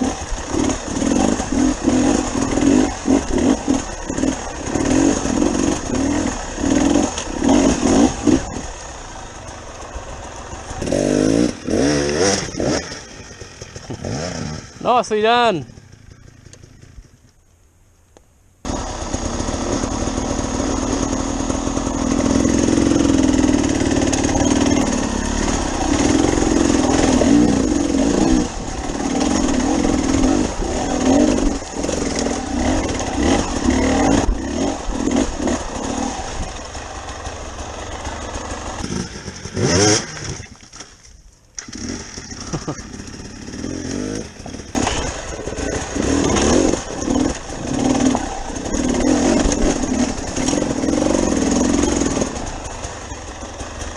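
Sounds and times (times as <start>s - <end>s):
motorcycle engine revving: 0.0s - 17.3s, 18.6s - 40.8s, 41.6s - 53.9s.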